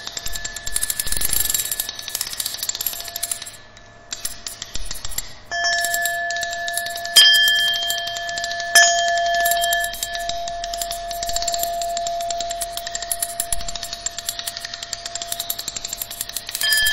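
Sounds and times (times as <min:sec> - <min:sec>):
dense crackling clicks: 0:00.0 - 0:16.9
steady high electronic tones: 0:00.0 - 0:16.9.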